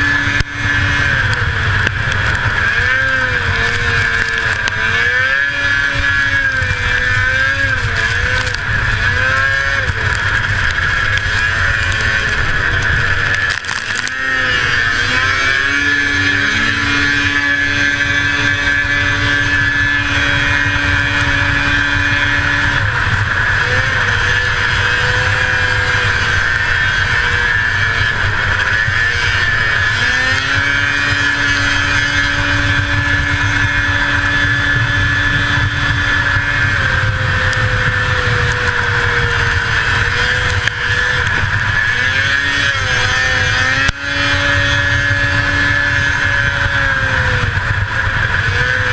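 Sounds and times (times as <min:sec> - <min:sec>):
snowmobile engine running hard: 0:00.0 - 0:48.9.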